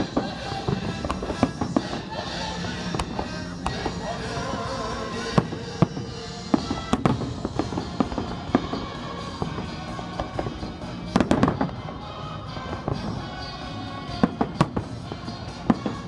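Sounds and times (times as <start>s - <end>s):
fireworks bangs and crackles: 0.0s - 16.0s
music: 0.0s - 16.0s.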